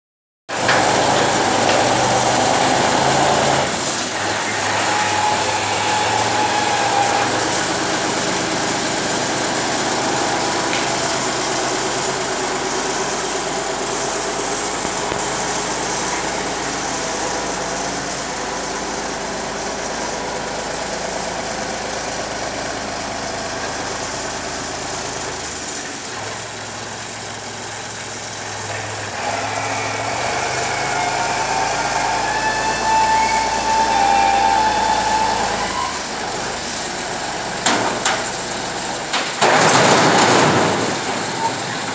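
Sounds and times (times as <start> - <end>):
diesel loader engine under load: 0.5 - 41.9.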